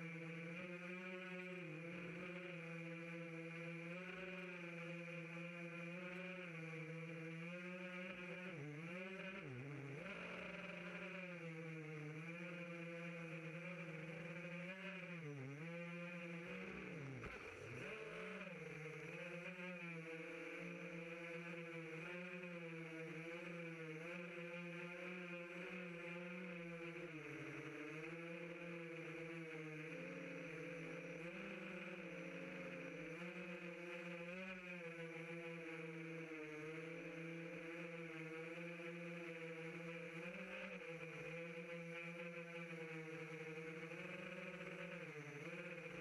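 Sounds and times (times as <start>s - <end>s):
quadcopter motors droning: 0.0s - 46.0s.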